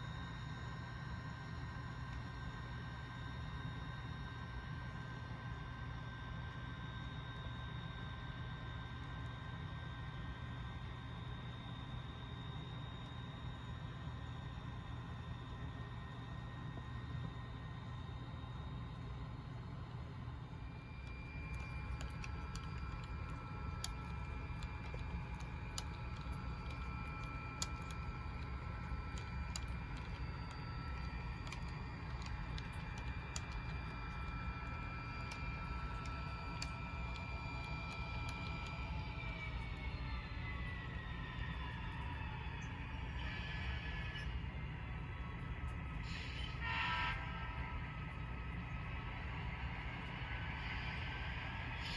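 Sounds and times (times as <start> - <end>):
model locomotive engine drone: 0.0 - 51.9.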